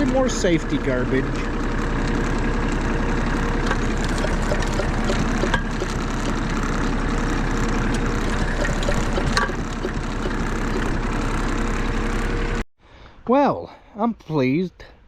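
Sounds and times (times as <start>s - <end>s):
small gasoline engine running: 0.0s - 12.6s.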